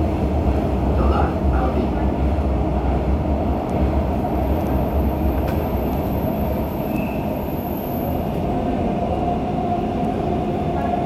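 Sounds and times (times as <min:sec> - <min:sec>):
metro train rumble: 0:00.0 - 0:11.0.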